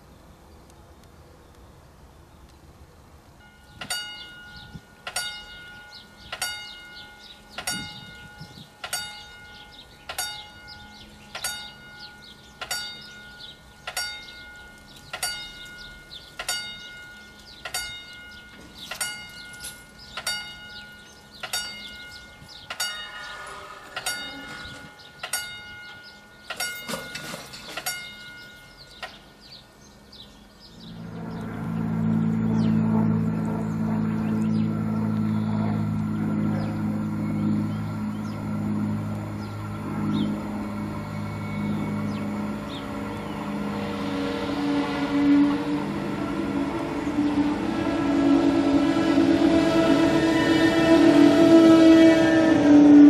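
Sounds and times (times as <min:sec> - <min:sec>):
train rumble: 0:02.7 - 0:53.0
level crossing warning bell: 0:03.4 - 0:29.4, 0:32.4 - 0:52.1.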